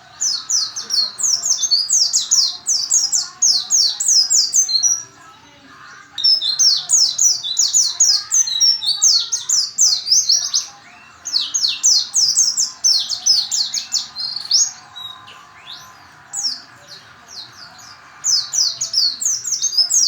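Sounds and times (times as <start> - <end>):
bird high twittering song: 0.0 - 5.2, 6.0 - 20.0.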